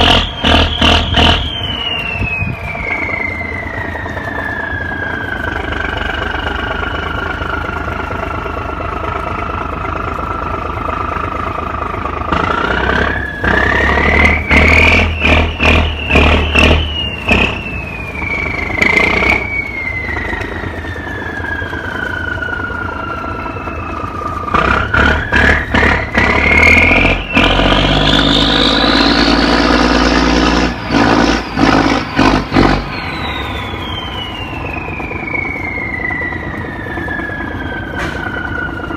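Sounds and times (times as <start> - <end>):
boat engine revving: 0.0 - 38.9
high whine: 0.0 - 38.9.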